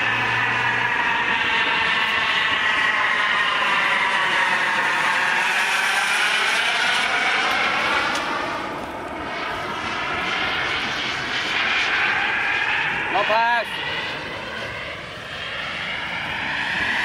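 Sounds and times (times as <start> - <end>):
model jet turbine whine: 0.0 - 17.0.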